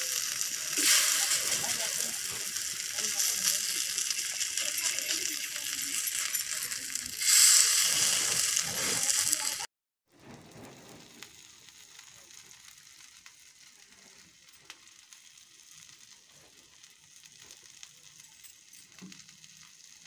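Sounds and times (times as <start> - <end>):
fritters sizzling in oil: 0.0 - 20.0
oil ticks and crackles: 0.0 - 20.0.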